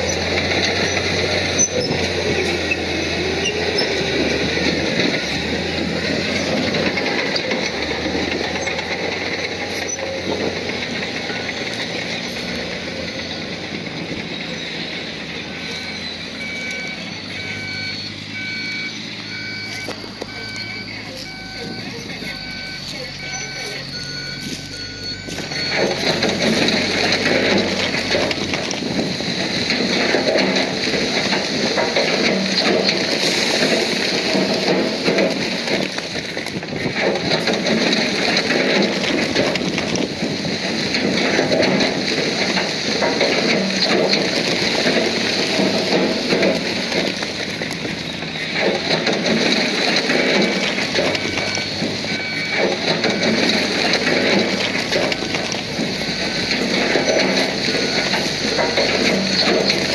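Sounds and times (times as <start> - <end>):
bulldozer grinding rock and dirt: 0.0 - 59.9.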